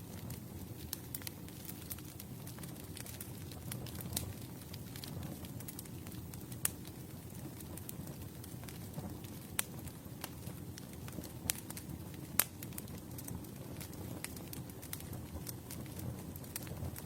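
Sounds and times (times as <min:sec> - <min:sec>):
campfire flames rumbling: 0:00.0 - 0:17.0
wood crackling and popping: 0:00.0 - 0:17.0.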